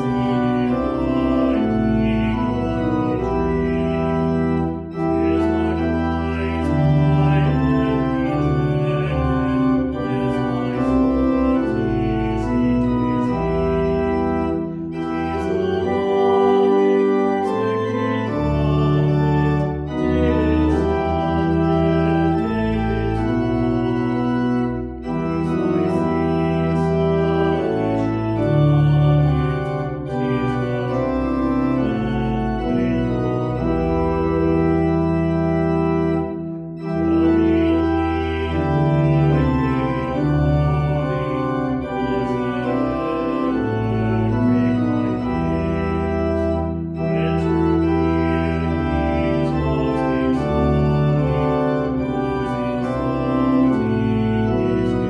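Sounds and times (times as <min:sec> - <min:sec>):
church organ playing a hymn: 0:00.0 - 0:55.0.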